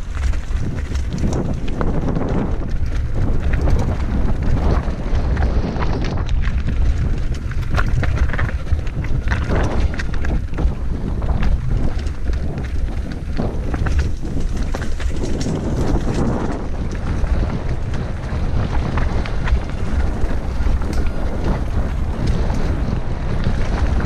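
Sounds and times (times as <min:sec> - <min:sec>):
bike clicks and rattles: 0:00.0 - 0:24.0
wind rushing over microphone: 0:00.0 - 0:24.0.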